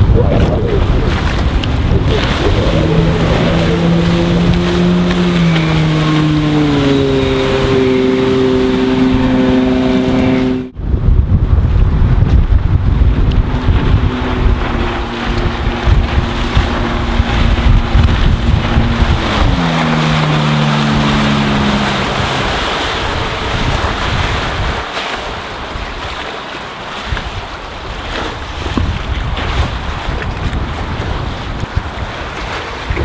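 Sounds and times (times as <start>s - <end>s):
water splashing: 0.0s - 10.8s, 12.3s - 33.0s
wind buffeting microphone: 0.0s - 26.2s, 26.9s - 33.0s
speedboat engine: 0.0s - 33.0s.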